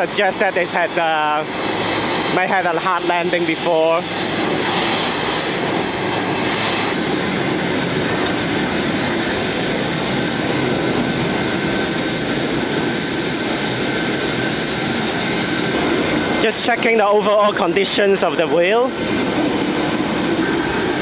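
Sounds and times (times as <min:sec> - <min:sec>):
high steady whine: 0:00.0 - 0:21.0
jet turbine rushing: 0:00.0 - 0:21.0.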